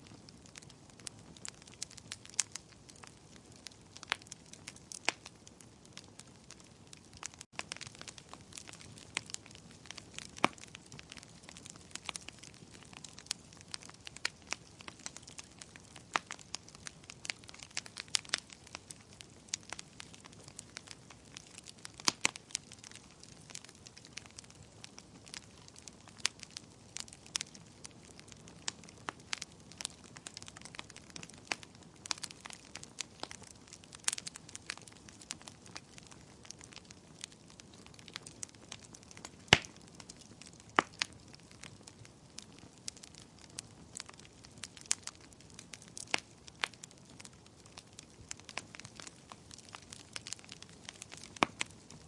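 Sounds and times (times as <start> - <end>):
wood bonfire crackling: 0.0 - 52.0.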